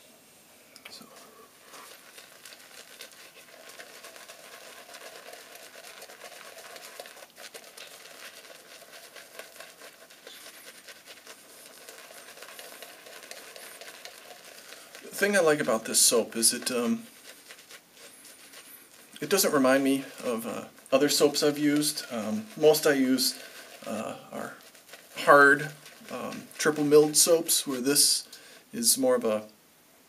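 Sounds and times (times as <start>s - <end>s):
shaving brush scrubbing lather: 1.0s - 29.3s.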